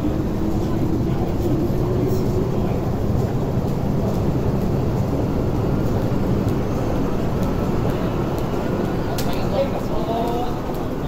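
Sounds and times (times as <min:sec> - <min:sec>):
metro train running: 0:00.0 - 0:11.0.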